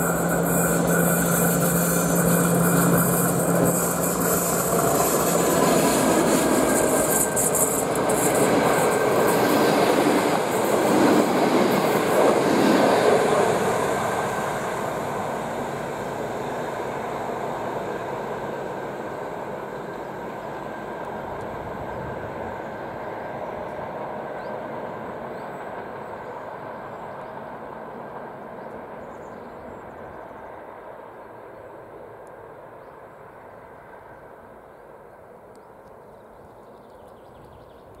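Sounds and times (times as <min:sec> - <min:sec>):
diesel train rumbling: 0:00.0 - 0:32.2.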